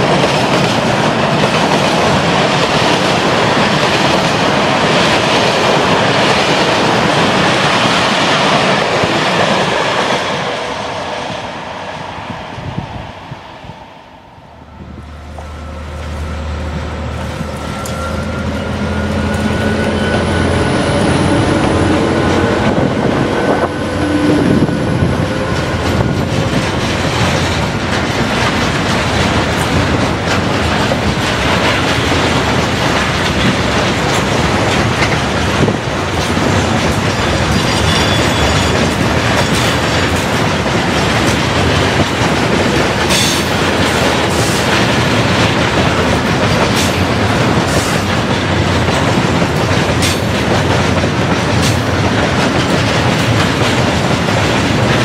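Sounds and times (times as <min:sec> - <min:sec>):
train wheel clatter: 0:00.0 - 0:12.0, 0:15.3 - 0:55.0
diesel locomotive engine hum: 0:00.0 - 0:55.0
train wagons rumbling: 0:00.0 - 0:55.0.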